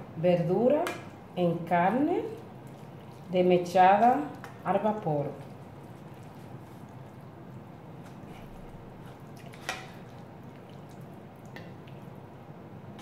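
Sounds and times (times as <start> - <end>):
spoon stirring wet stew: 0.6 - 12.3.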